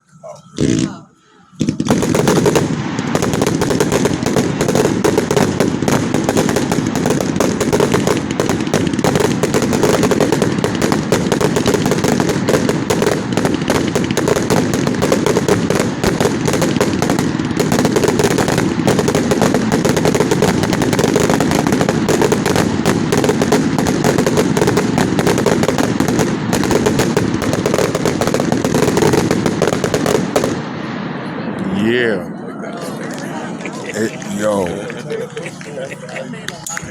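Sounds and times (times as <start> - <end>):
firework cake rapid firing: 0.6 - 30.7.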